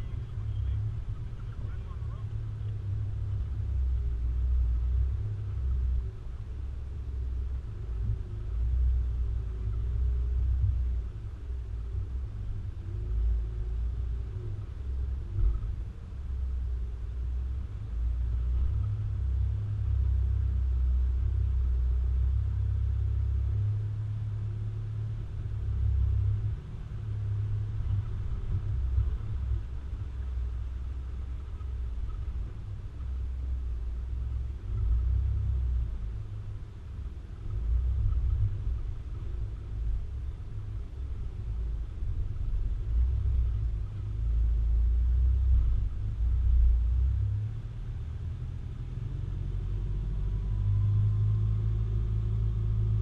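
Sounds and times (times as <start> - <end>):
vehicle rumbling along a track: 0.0 - 53.0.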